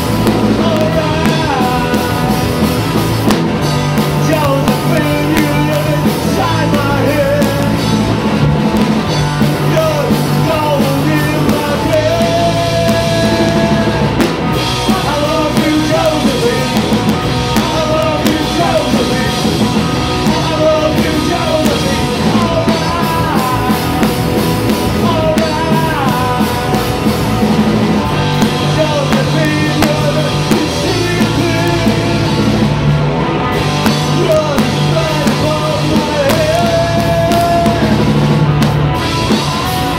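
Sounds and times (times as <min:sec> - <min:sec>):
bass guitar: 0:00.0 - 0:39.9
drum kit: 0:00.0 - 0:39.9
electric guitar: 0:00.0 - 0:39.9
person singing: 0:00.3 - 0:03.0, 0:04.0 - 0:08.2, 0:09.6 - 0:27.3, 0:28.4 - 0:32.8, 0:33.8 - 0:38.4.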